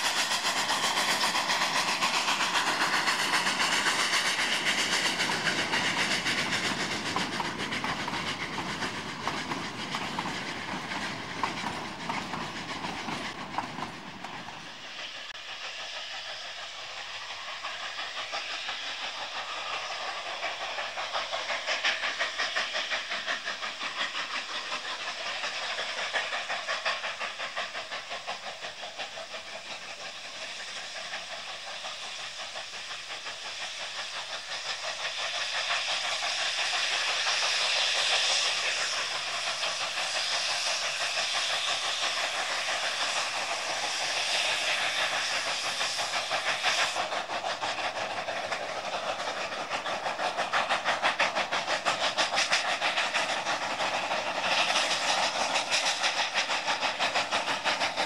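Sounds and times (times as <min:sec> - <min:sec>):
steam locomotive exhaust beats: 0:00.0 - 0:58.0
train wheels clicking over rail joints: 0:00.0 - 0:58.0.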